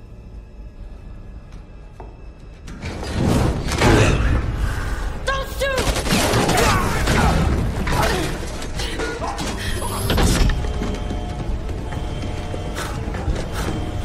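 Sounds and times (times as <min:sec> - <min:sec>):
horror film music: 0:00.0 - 0:14.0.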